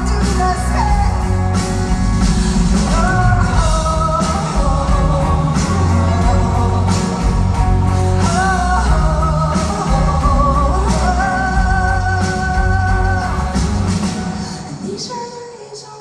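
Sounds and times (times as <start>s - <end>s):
woman singing: 0.0s - 1.6s, 2.7s - 16.0s
live rock band playing: 0.0s - 15.4s.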